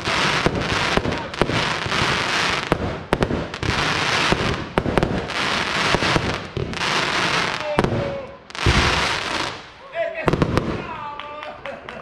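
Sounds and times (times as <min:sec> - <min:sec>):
crackling firework stars: 0:00.0 - 0:12.0.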